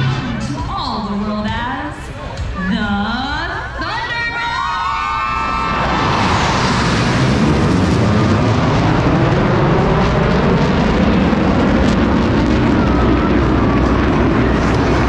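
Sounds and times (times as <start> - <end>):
jet roar: 0.0 - 1.2, 4.1 - 15.0.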